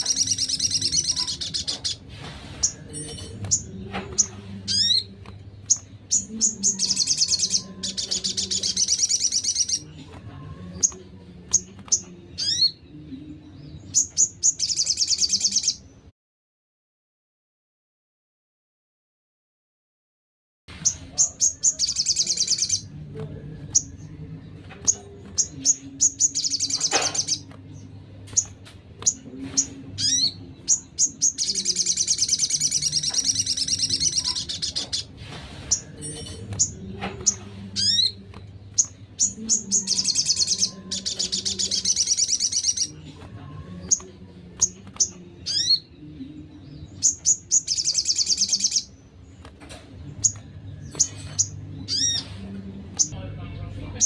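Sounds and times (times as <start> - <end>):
songbirds trilling: 0.0 - 16.1, 20.7 - 53.2.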